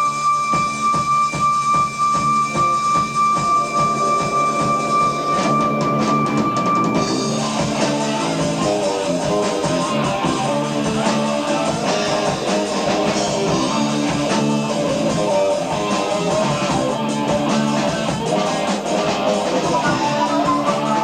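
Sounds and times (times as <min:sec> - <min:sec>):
electric guitar: 0:00.0 - 0:21.0
live progressive rock band: 0:00.0 - 0:21.0.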